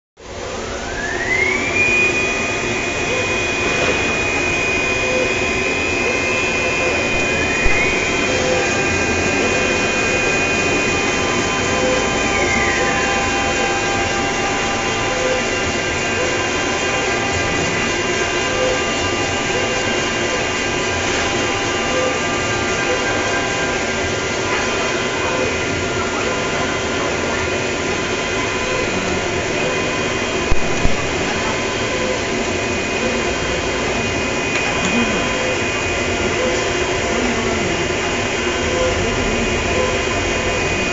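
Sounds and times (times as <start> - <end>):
cutting machine motor whine: 0.2 - 40.9.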